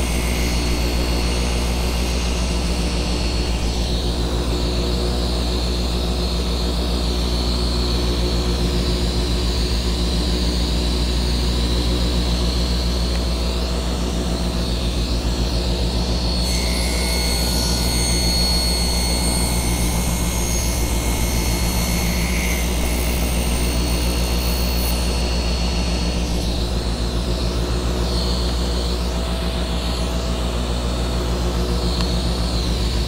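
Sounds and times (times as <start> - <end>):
table saw running: 0.0 - 33.0
thin high whine: 0.0 - 33.0.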